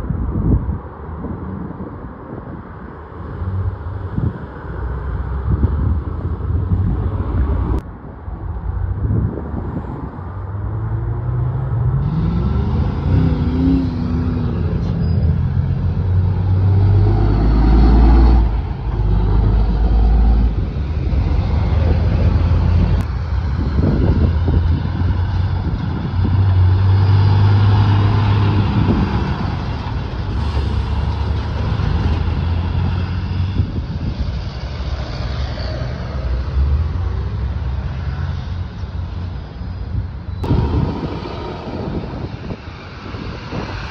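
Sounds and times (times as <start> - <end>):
heavy diesel trucks driving past: 8.4 - 43.9.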